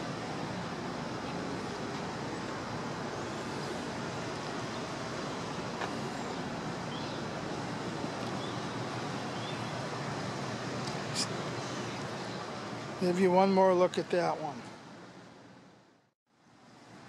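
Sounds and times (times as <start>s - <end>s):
outdoor background hiss and rumble: 0.0s - 17.0s.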